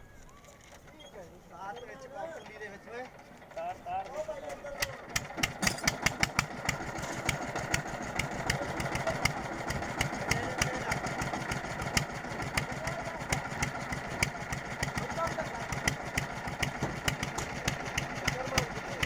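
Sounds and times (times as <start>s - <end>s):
lift engine running with knock: 2.4s - 19.0s.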